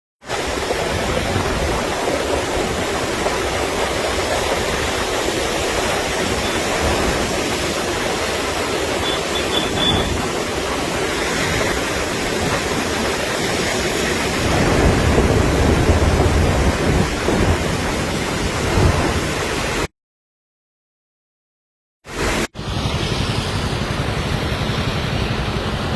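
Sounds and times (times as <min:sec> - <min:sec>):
floodwater rushing in stream: 0:00.2 - 0:19.9, 0:22.1 - 0:25.9.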